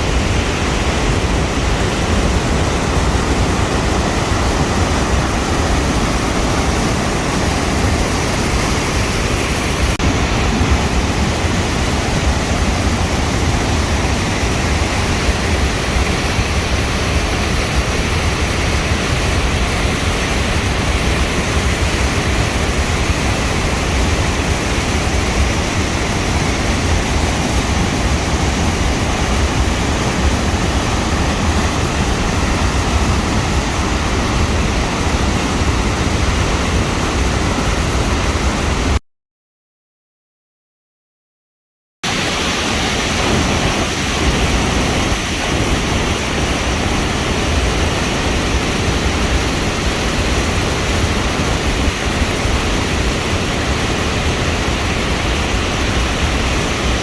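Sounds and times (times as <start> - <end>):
waterfall and river rushing: 0.0 - 39.0, 42.1 - 57.0.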